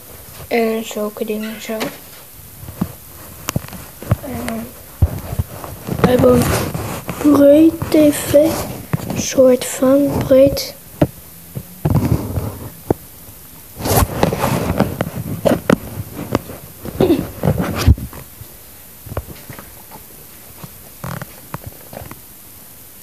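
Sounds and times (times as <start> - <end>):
camera rubbing on fabric: 1.7 - 12.9, 13.8 - 22.2.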